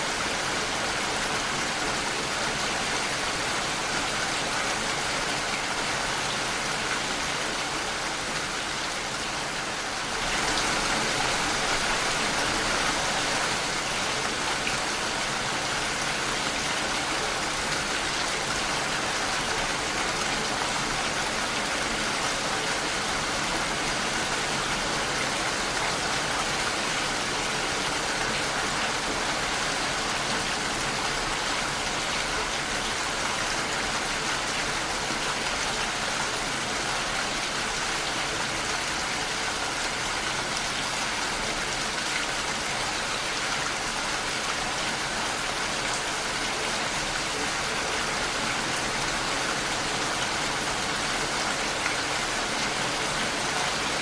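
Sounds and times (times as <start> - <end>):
rain against a window pane: 0.0 - 54.0.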